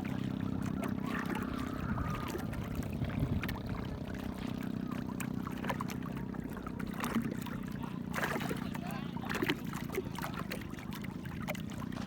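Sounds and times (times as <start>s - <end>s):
boat engine running: 0.0s - 12.0s
water against boat hull: 0.0s - 12.0s.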